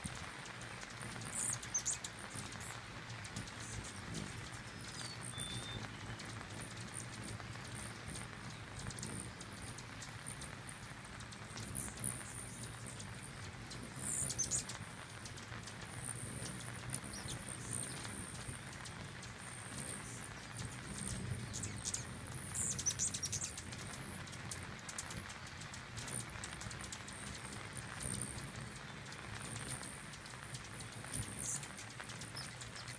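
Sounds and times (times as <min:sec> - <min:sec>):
hummingbird wings buzzing: 0:00.0 - 0:32.9
hummingbirds chattering squeals: 0:00.0 - 0:32.9
hummingbirds chipping and twittering: 0:00.0 - 0:32.9.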